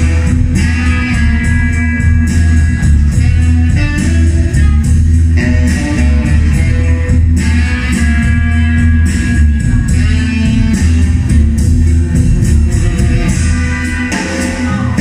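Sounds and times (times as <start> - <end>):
loud guitar-led music: 0.0 - 15.0.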